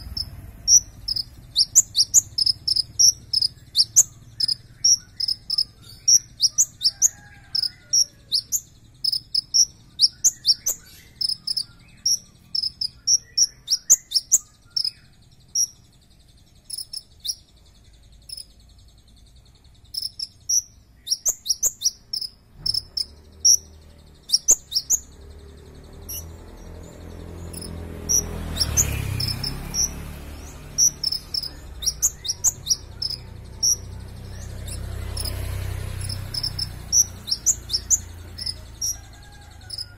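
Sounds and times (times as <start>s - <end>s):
bird chirping high-pitched: 0.0s - 39.9s
traffic engine rumble: 0.0s - 39.9s.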